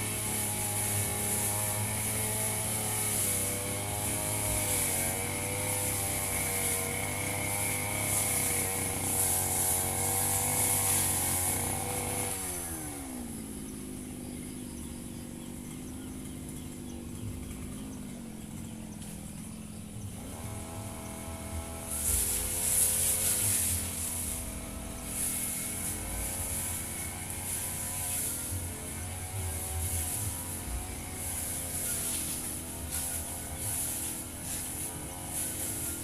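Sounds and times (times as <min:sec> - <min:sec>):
brush cutter engine revving: 0:00.0 - 0:36.0.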